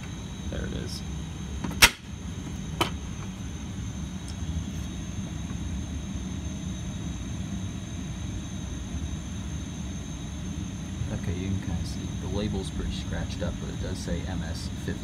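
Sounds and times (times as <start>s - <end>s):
high-pitched whine: 0.0s - 15.0s.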